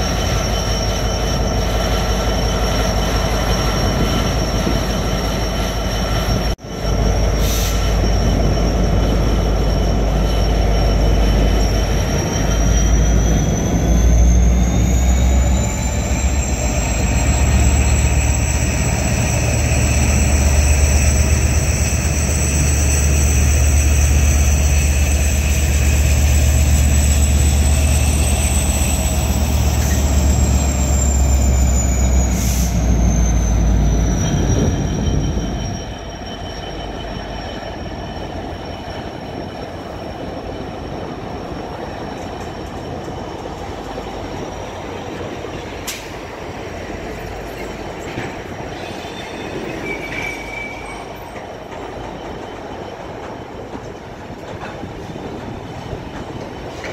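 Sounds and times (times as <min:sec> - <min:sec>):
diesel locomotives rumbling: 0:00.0 - 0:56.9
high wheel squeal: 0:00.0 - 0:56.9.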